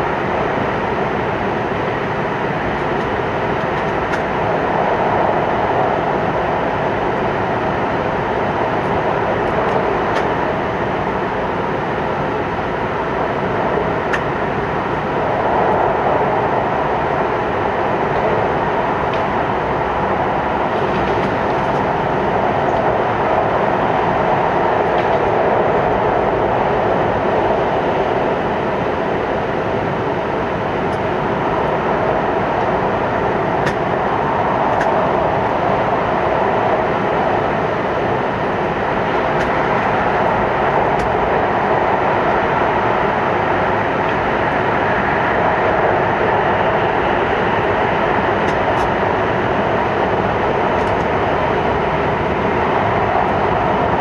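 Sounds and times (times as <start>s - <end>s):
train roar in tunnel: 0.0s - 54.0s.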